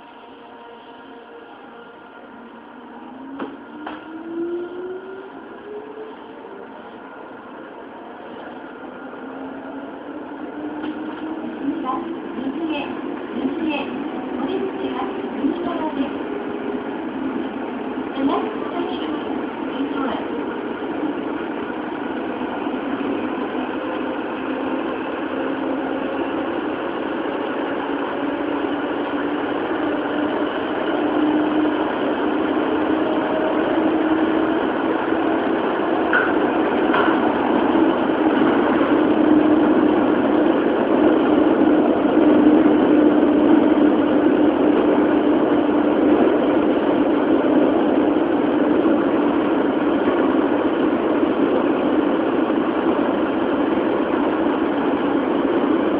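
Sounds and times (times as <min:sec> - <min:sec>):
subway train motor hum: 0:00.0 - 0:55.9.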